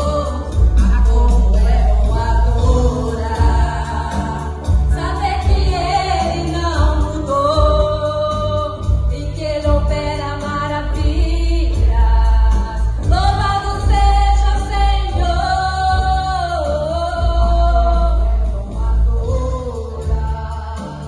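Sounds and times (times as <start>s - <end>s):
bass-heavy accompaniment: 0.0s - 21.0s.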